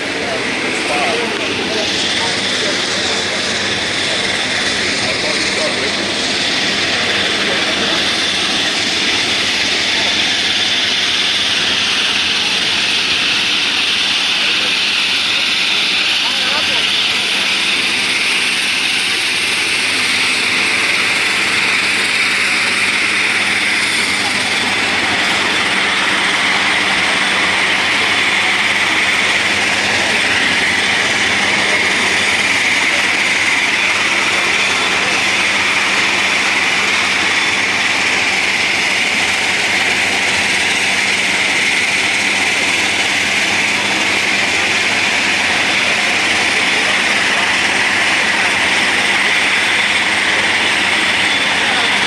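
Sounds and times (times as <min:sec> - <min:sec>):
aircraft engine noise: 0:00.0 - 0:52.0
voices: 0:00.0 - 0:52.0.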